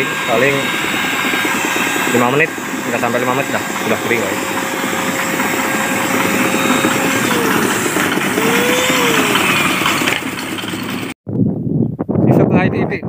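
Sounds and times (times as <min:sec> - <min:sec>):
electric paint spray gun running: 0:00.0 - 0:11.2.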